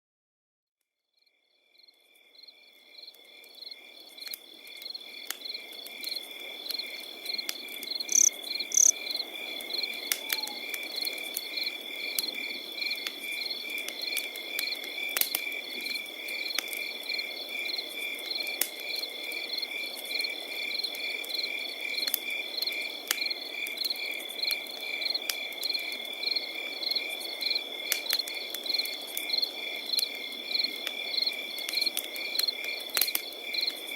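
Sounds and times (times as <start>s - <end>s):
crickets chirping: 1.2s - 33.9s
campfire crackling and popping: 3.0s - 33.9s.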